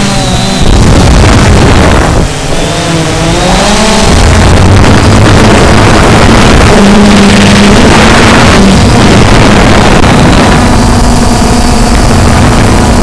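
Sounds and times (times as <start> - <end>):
drone motors droning: 0.0 - 13.0
wind rush on microphone: 0.0 - 13.0.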